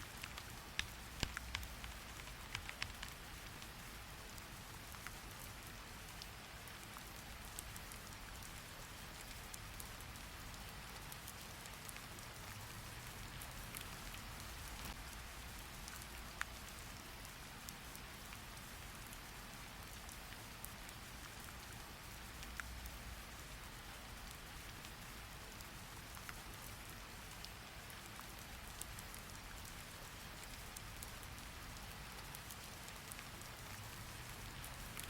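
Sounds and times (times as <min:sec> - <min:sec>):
faint ticks: 0:00.0 - 0:35.0
rain falling: 0:00.0 - 0:35.0.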